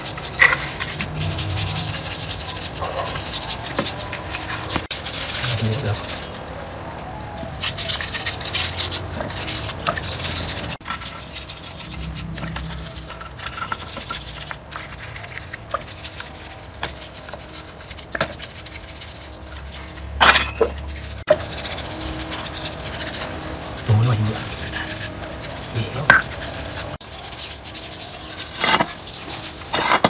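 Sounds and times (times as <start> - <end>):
hands scrubbing metal parts: 0.0 - 30.0.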